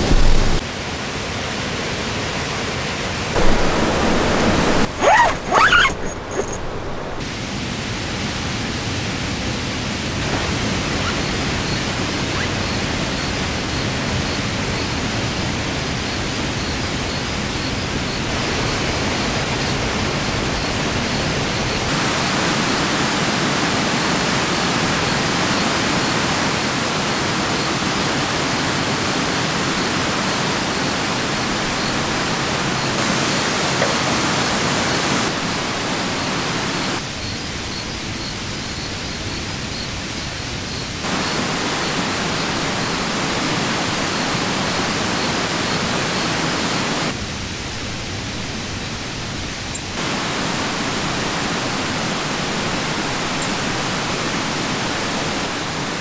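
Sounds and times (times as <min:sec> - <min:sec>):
steady rain falling: 0:00.0 - 0:05.7, 0:06.6 - 0:56.0.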